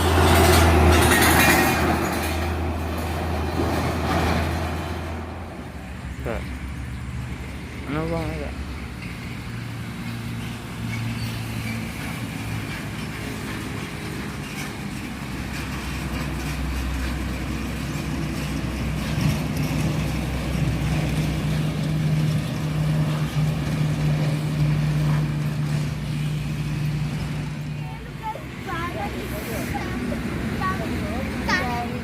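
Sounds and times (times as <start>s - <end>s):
heavy truck engine: 0.0s - 32.0s
highway traffic: 0.0s - 32.0s.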